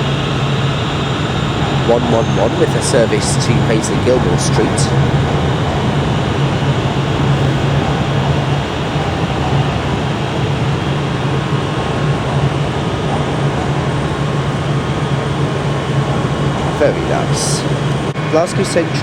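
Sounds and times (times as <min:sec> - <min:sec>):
station noise wash: 0:00.0 - 0:19.0
trains humming and rumbling: 0:00.0 - 0:19.0.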